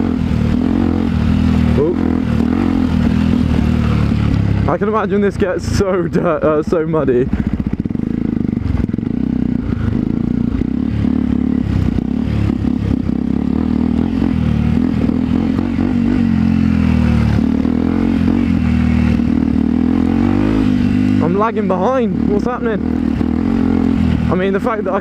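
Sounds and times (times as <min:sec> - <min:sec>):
gravel and chassis clattering: 0:00.0 - 0:25.0
small motorcycle engine running: 0:00.0 - 0:25.0.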